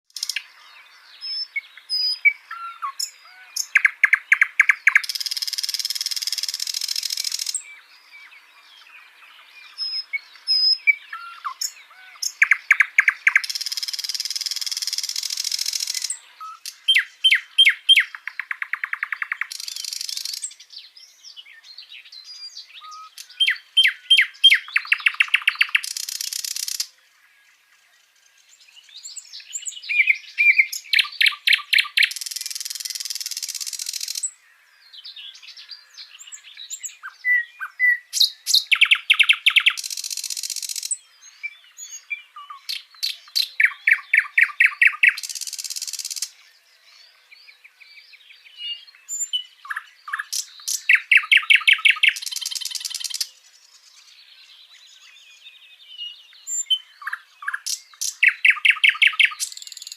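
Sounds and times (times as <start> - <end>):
bird singing with scratchy trills: 0.1 - 59.9.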